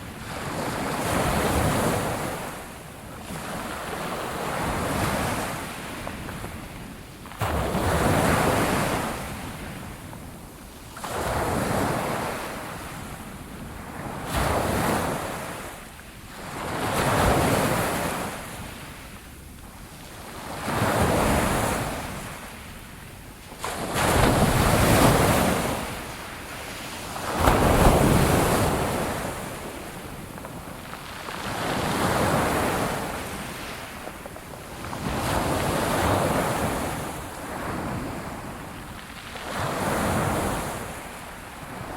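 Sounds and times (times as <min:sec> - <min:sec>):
ocean waves breaking on shore: 0:00.0 - 0:10.1, 0:10.9 - 0:19.1, 0:20.0 - 0:41.9.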